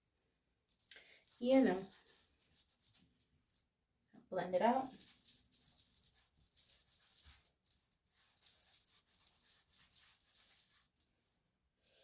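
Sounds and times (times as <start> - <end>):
hands rustling wig hair: 0.6 - 3.8, 4.8 - 12.0.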